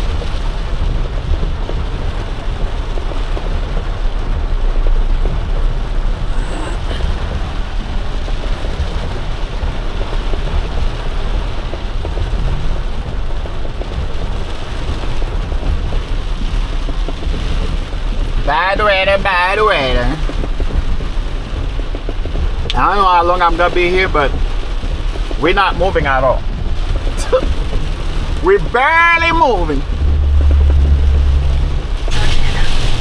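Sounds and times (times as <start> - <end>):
heavy rain on truck: 0.0 - 33.0
road noise: 0.0 - 33.0
truck engine rumble: 0.0 - 33.0.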